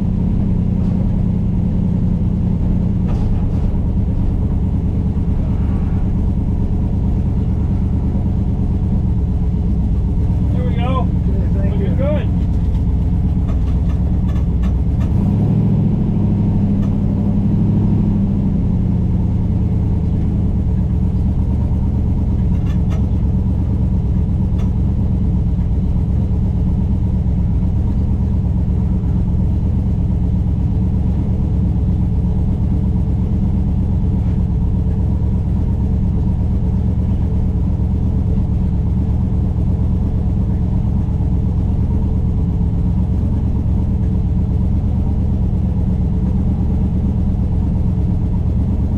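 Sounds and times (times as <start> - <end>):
vehicle engine rumbling: 0.0 - 48.9.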